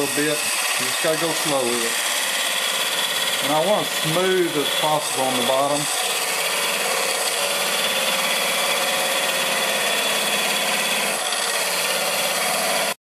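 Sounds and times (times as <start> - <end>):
lathe tool scraping wood: 0.0 - 13.0
wood lathe running: 0.0 - 13.0.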